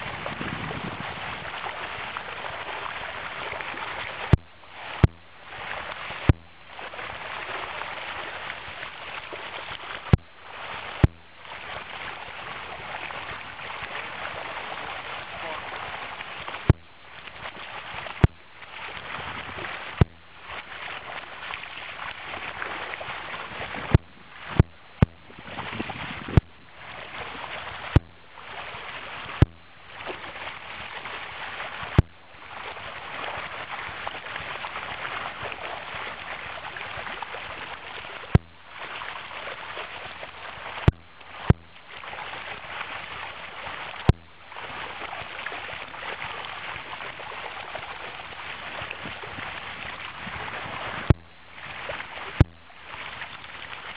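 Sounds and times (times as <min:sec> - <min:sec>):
stream rushing over gravel: 0:00.0 - 0:53.9.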